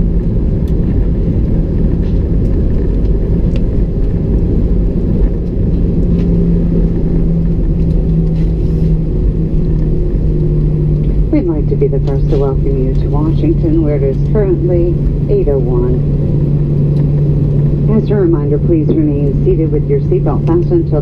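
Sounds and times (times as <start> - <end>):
aircraft cabin low rumble: 0.0 - 21.0
engine hum: 0.0 - 21.0.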